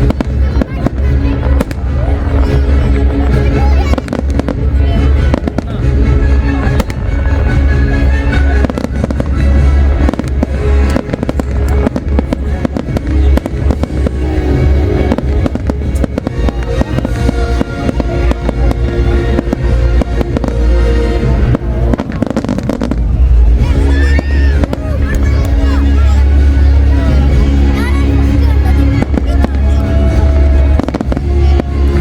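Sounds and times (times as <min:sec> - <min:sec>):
fireworks banging: 0:00.0 - 0:32.0
loud music: 0:00.0 - 0:32.0.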